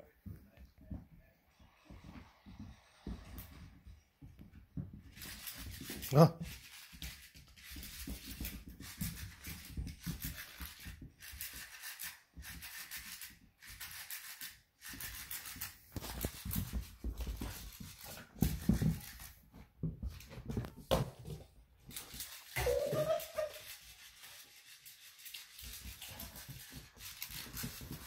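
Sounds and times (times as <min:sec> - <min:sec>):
dog scuffling with toy: 0:02.0 - 0:28.0.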